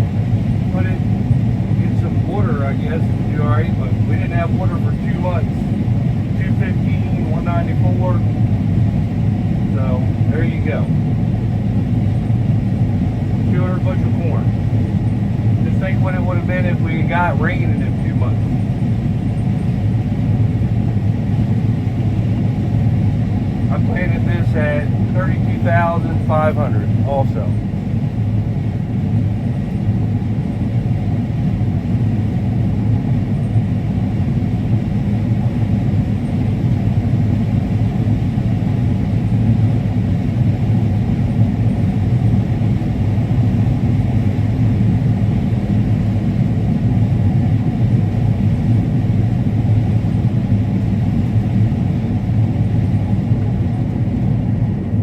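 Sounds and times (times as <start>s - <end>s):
combine harvester rumbling: 0.0s - 55.0s.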